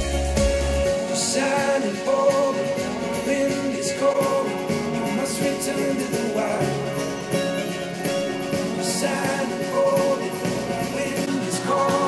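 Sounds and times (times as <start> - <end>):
song through speakers: 0.0 - 12.0.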